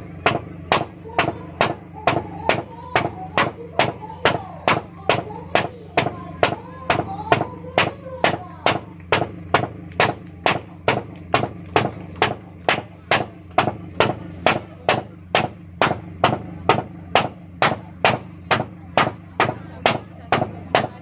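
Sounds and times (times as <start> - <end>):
steady beat of sharp hits: 0.0 - 21.0.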